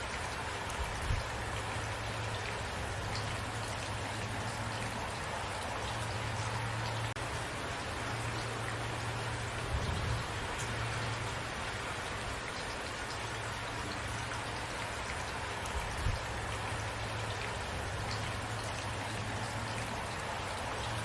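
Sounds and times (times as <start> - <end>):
raindrops ticking on a surface: 0.0 - 21.0
steady rain falling: 0.0 - 21.0.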